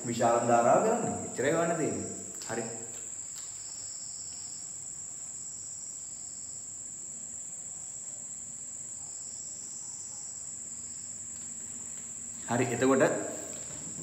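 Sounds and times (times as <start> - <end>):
high-pitched insect chorus: 0.0 - 14.0
low room hiss: 0.0 - 14.0.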